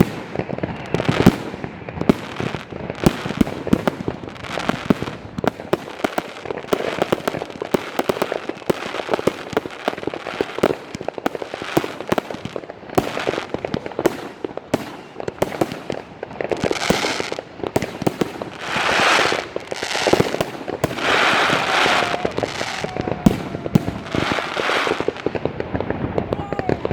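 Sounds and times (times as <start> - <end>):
crackling hissing fireworks: 0.0 - 26.9
fireworks barrage: 0.0 - 26.9.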